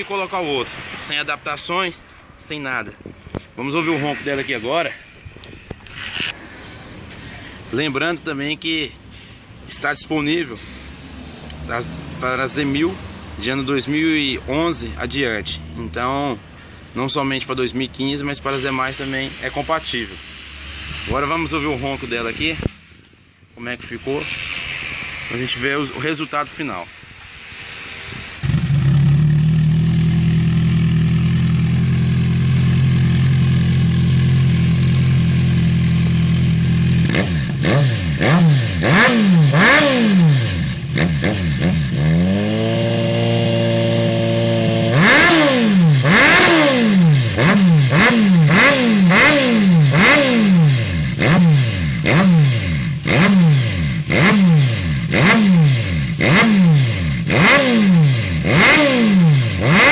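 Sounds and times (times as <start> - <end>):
motorcycle engine idling and revving: 3.2 - 59.9.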